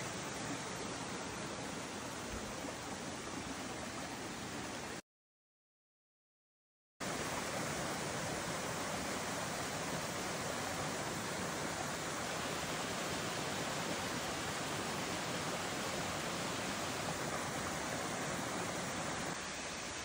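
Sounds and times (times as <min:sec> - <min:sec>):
stream rushing over rocks: 0:00.0 - 0:05.0, 0:07.0 - 0:20.0.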